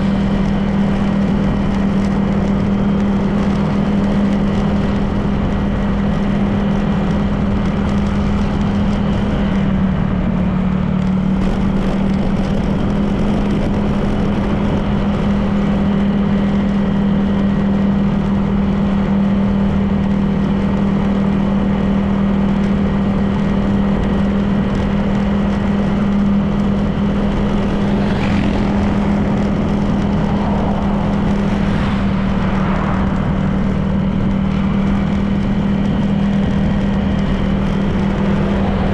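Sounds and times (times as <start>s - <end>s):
road and wind noise: 0.0s - 38.9s
scooter engine droning: 0.0s - 38.9s.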